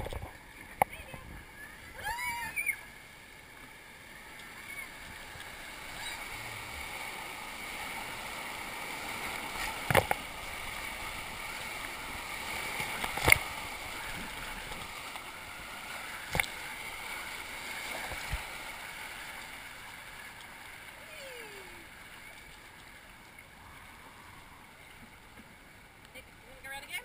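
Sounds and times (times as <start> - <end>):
rushing whitewater: 1.1 - 24.8.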